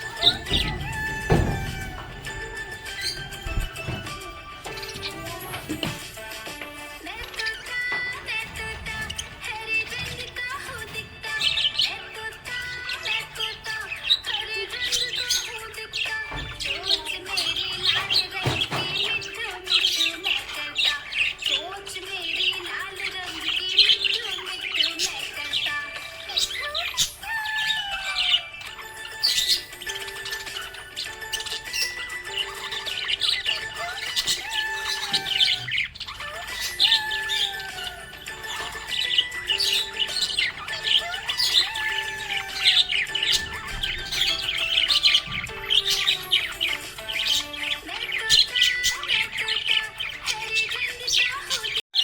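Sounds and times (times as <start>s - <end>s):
background music of held notes: 0.0s - 52.0s
budgies chirping and chattering: 0.0s - 52.0s.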